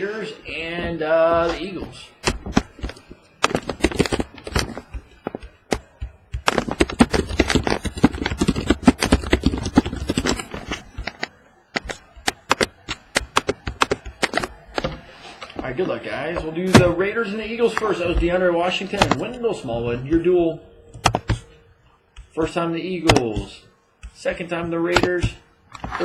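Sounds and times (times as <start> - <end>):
cards and plastic holders clicking: 1.4 - 16.9, 17.5 - 20.3, 20.9 - 26.0.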